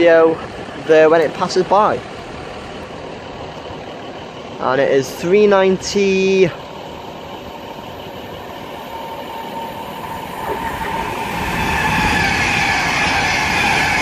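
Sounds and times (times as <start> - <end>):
train high whine: 0.0 - 14.0
train rail and wheel noise: 0.0 - 14.0.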